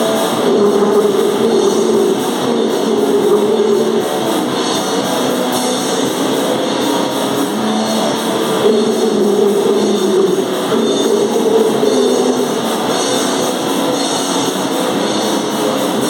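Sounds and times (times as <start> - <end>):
distorted guitar: 0.0 - 16.0
drums: 0.0 - 16.0
wall of noise: 0.0 - 16.0.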